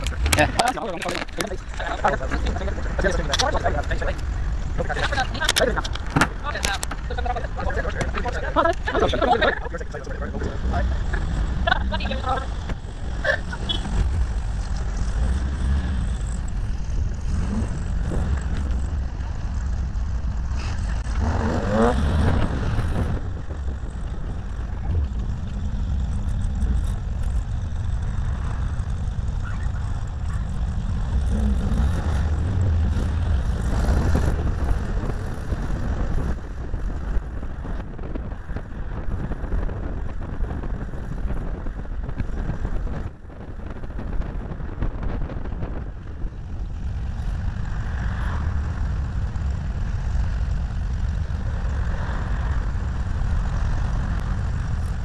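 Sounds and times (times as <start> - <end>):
low rumble of car and road: 0.0 - 55.0
wind buffeting microphone: 0.0 - 55.0.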